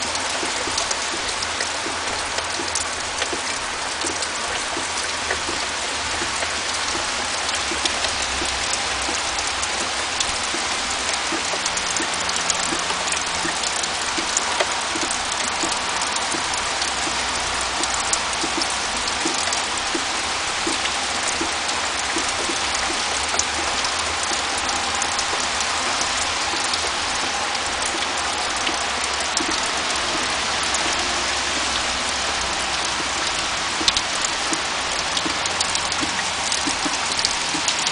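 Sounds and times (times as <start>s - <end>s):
rain falling: 0.0s - 37.9s
raindrops tapping on a surface: 0.0s - 37.9s.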